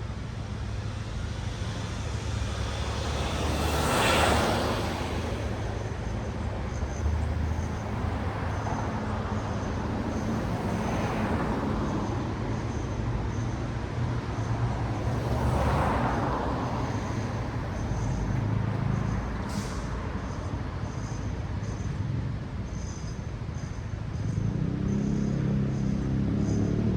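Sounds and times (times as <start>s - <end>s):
cars passing: 0.0s - 21.6s.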